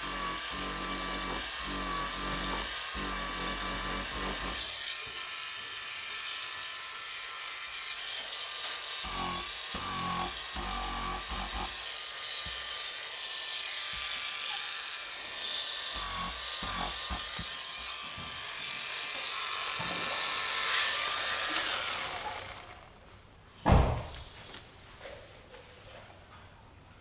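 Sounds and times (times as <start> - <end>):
mini sander whining: 0.0 - 23.0.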